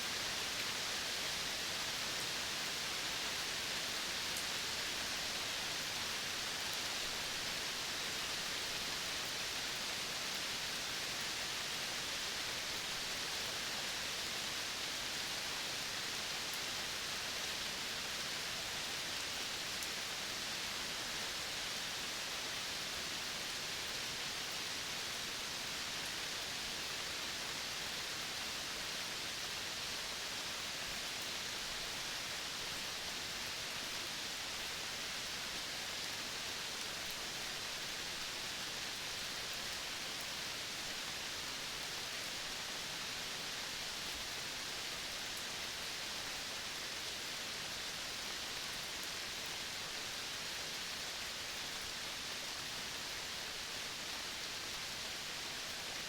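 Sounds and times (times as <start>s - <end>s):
outdoor nature ambience hiss: 0.0s - 56.0s.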